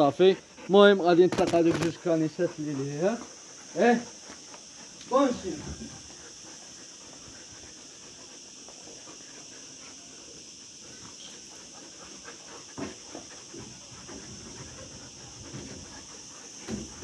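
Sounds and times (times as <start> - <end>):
dogs panting: 0.0 - 17.0.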